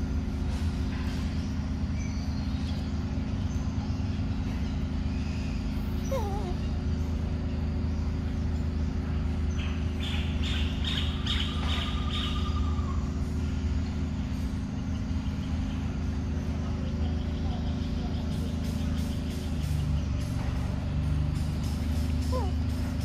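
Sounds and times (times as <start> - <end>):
birds chirping: 0.0 - 23.0
low engine-like rumble: 0.0 - 23.0.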